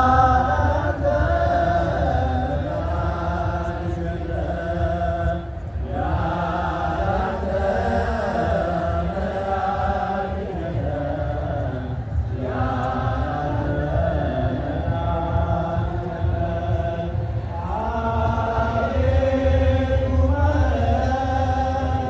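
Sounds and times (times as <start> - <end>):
choir chanting a hymn: 0.0 - 22.0.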